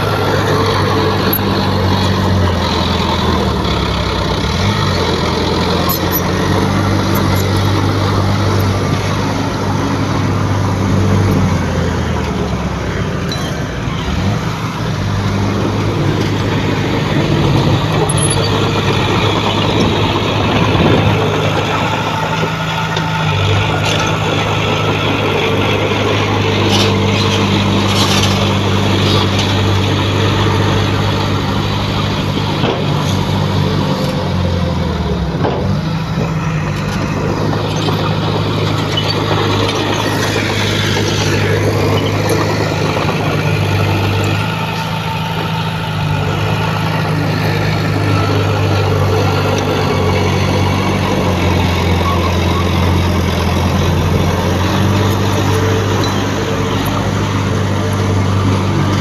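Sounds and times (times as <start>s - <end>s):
heavy machine engine under load: 0.0s - 59.0s.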